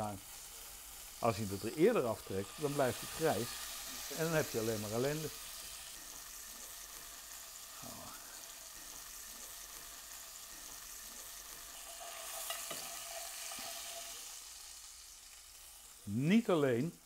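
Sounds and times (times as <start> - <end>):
steak sizzling in a pan: 0.0 - 17.0.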